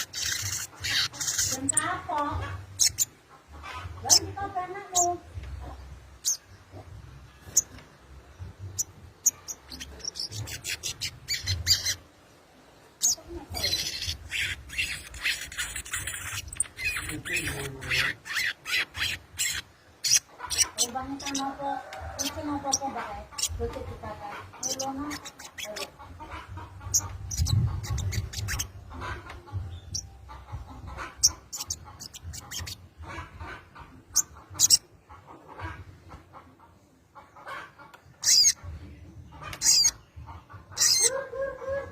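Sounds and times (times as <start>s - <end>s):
bird chirping calls: 0.0s - 12.3s, 12.9s - 21.6s, 22.2s - 35.9s, 37.4s - 41.9s.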